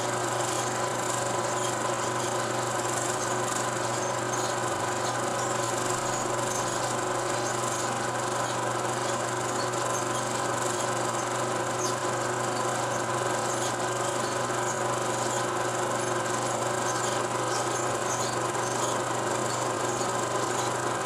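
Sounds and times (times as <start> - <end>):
film projector whirring: 0.0 - 21.0
faint irregular ticks: 0.1 - 21.0.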